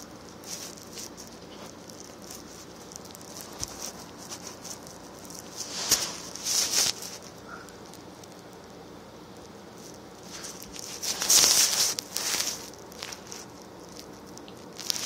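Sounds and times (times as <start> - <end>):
handling clicks and rustling: 0.0 - 8.4, 9.8 - 15.0.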